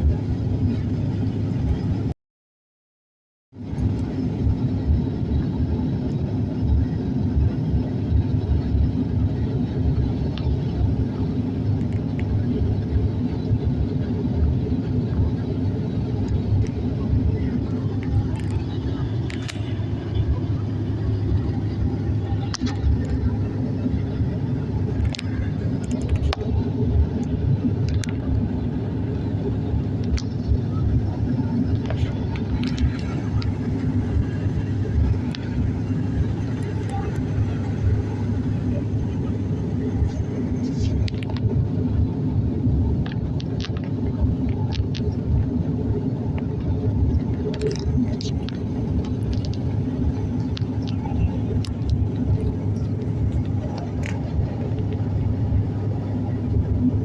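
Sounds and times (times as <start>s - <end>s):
airliner engine rumble in cabin: 0.0s - 2.2s, 3.5s - 57.0s
steady hum: 3.6s - 57.0s.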